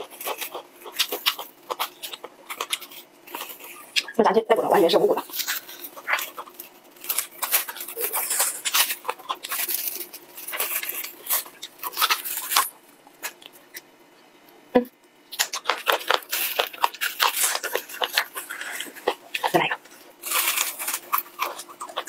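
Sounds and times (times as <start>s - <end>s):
crunching fried chicken: 0.0s - 4.2s, 4.8s - 13.9s, 15.1s - 22.0s.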